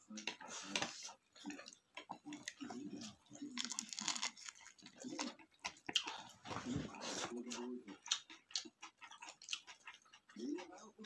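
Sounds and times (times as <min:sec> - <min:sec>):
person chewing food: 0:00.1 - 0:11.0.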